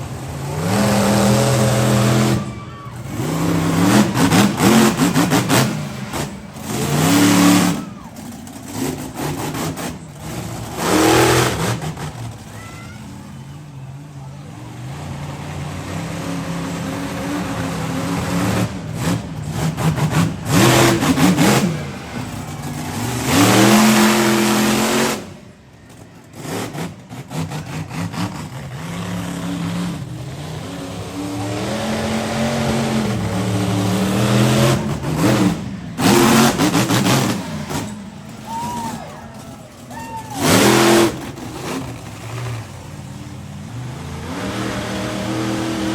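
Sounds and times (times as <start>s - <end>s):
truck engine revving: 0.0s - 45.9s.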